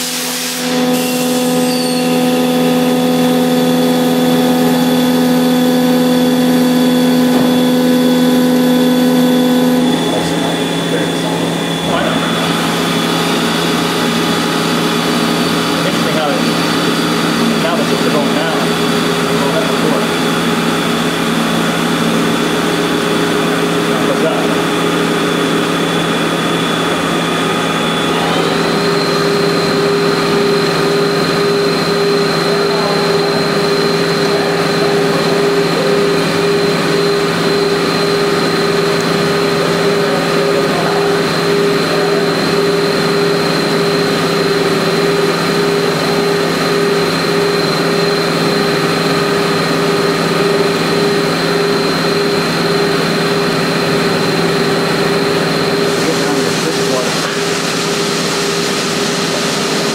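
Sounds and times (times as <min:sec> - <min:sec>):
lathe machine whine: 0:00.0 - 0:59.9.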